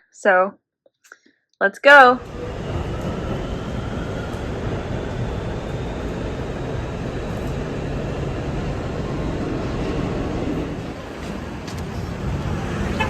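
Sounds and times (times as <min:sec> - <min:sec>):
moving vehicle running noise: 0:02.2 - 0:13.0.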